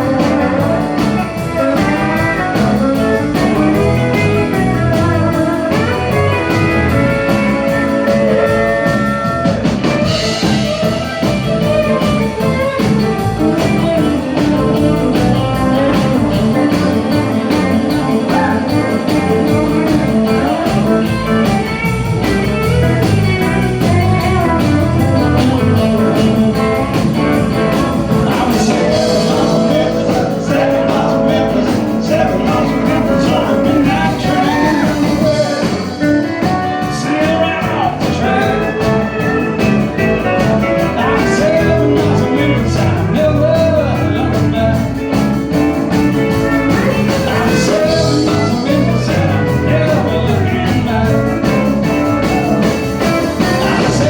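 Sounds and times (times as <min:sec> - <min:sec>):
guitars: 0:00.0 - 0:54.0
live country band playing: 0:00.0 - 0:54.0
steady drumbeat: 0:00.0 - 0:54.0.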